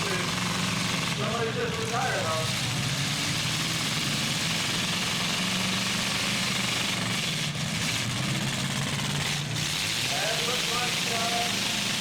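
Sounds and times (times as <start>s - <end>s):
truck engines running: 0.0s - 12.0s.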